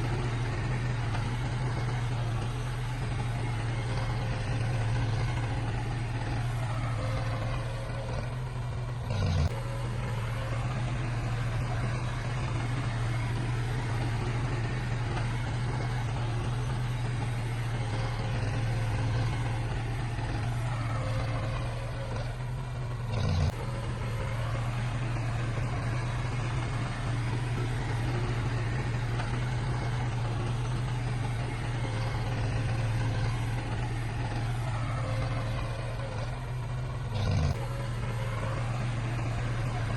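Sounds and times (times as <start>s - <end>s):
diesel engine low drone: 0.0s - 39.9s.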